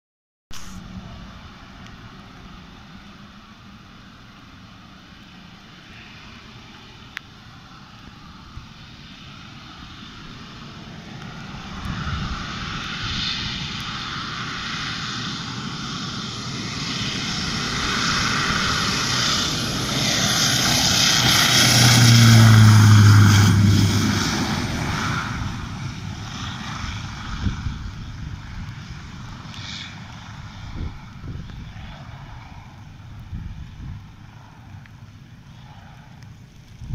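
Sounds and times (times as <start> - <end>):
propeller airplane taking off: 0.6 - 36.9.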